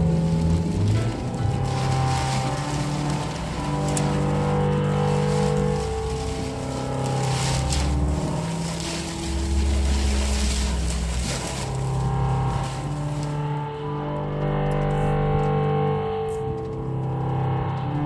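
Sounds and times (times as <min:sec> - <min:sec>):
sustained chords over deep bass: 0:00.0 - 0:18.0.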